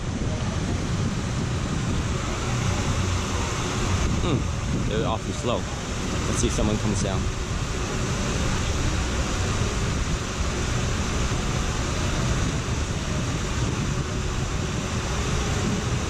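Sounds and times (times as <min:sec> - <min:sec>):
water rushing down slide channel: 0:00.0 - 0:16.0.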